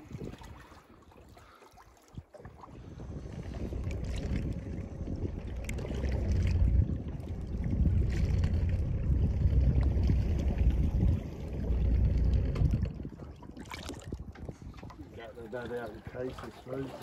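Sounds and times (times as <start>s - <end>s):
wind buffeting microphone: 0.0s - 1.0s, 2.1s - 16.9s.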